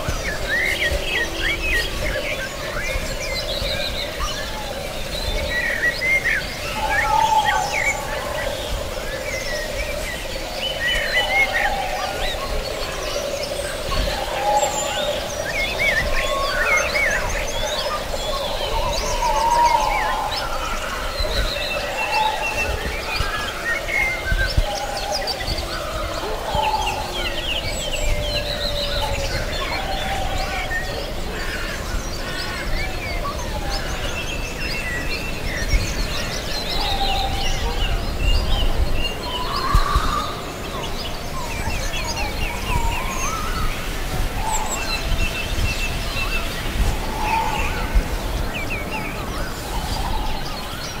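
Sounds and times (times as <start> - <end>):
songbirds chirping and singing: 0.0 - 51.0.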